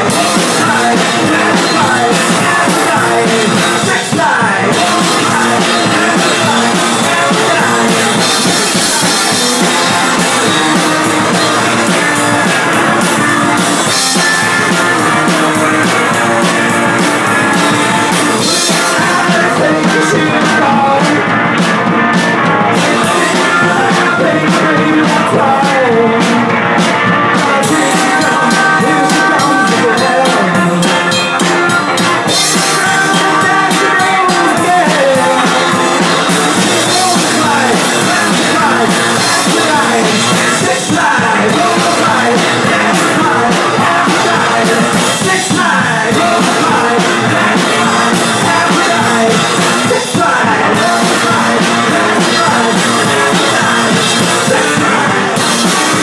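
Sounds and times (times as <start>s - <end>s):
rock music with drums and guitar: 0.0s - 56.0s.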